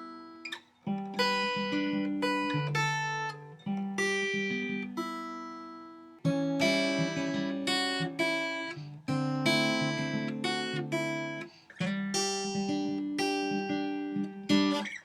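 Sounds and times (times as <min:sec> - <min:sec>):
acoustic guitar strummed chords: 0:00.0 - 0:15.0.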